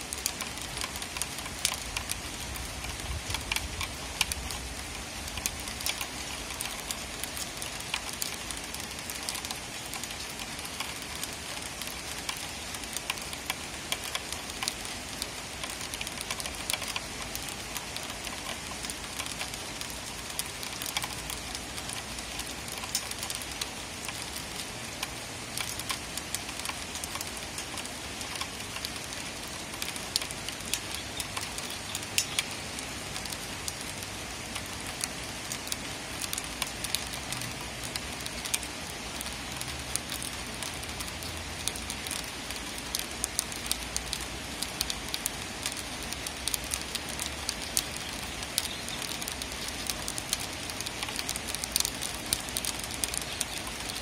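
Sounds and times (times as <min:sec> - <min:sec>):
rain falling: 0:00.0 - 0:54.0
raindrop taps: 0:00.2 - 0:54.0.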